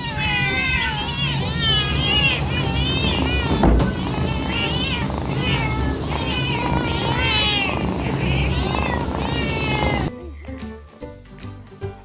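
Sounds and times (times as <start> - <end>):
cat meowing: 0.0 - 10.1
steady low hum: 0.4 - 10.1.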